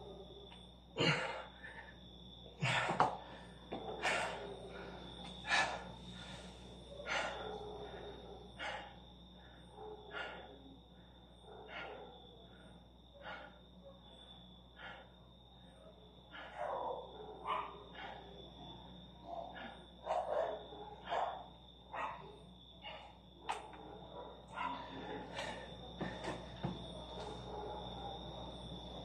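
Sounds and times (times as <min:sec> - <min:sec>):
man breathing heavily: 0:01.0 - 0:13.8, 0:14.5 - 0:16.8, 0:17.7 - 0:21.8, 0:22.7 - 0:28.9.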